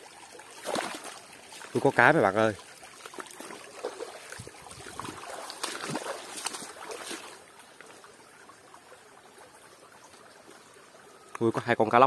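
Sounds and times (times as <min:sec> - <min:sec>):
water splashing and sloshing: 0:00.0 - 0:11.6
stream trickling: 0:00.0 - 0:12.0.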